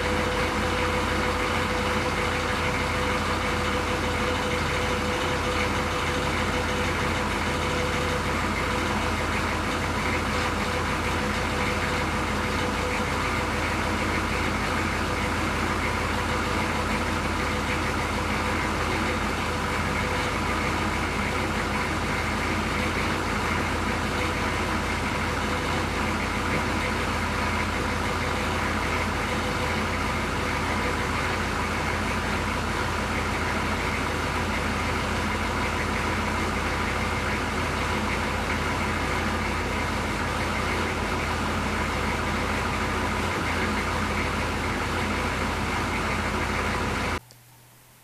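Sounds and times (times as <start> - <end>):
diesel engine idling: 0.0 - 47.2.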